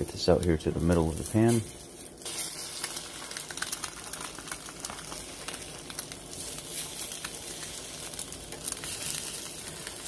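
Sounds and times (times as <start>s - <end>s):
egg sizzling in a pan: 0.0s - 10.0s
hot oil crackling: 0.0s - 10.0s.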